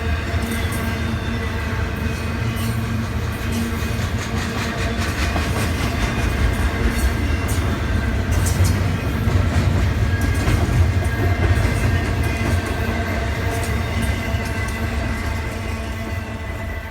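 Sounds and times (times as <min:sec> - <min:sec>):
freight train rumble: 0:00.0 - 0:16.9.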